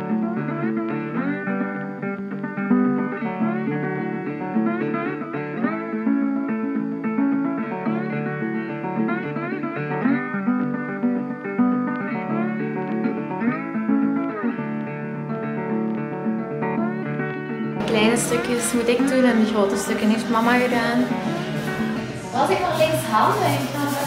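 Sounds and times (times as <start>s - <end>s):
acoustic guitar plucked notes: 0.0s - 24.0s.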